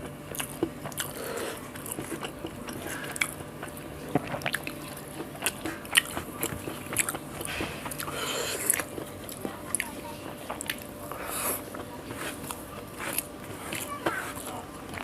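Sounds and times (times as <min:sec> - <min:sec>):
faint steady hum: 0:00.0 - 0:15.0
person chewing food: 0:00.0 - 0:15.0.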